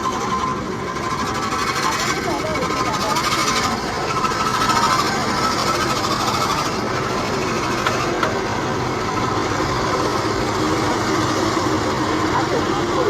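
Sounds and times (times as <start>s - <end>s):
engine and traffic noise: 0.0s - 13.0s.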